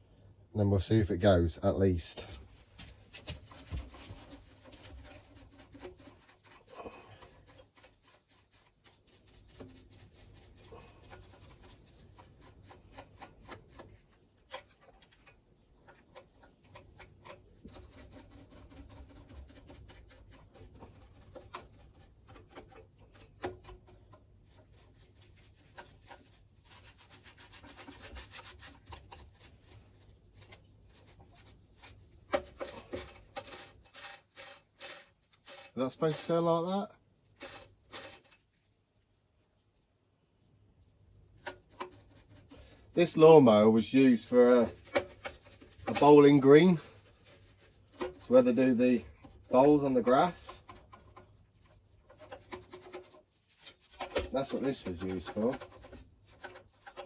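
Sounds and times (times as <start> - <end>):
stiff brush scrubbing: 2.1 - 38.6, 41.3 - 57.0.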